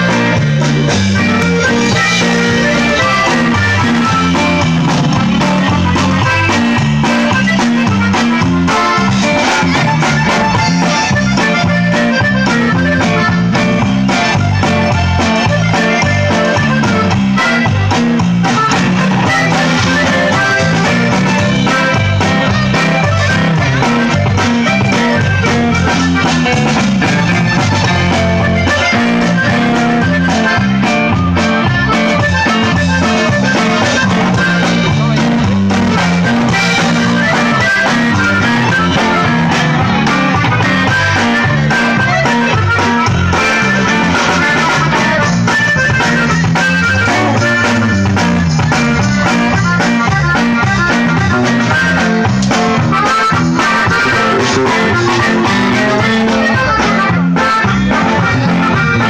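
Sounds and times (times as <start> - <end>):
accordion band music over speakers: 0.0 - 59.0.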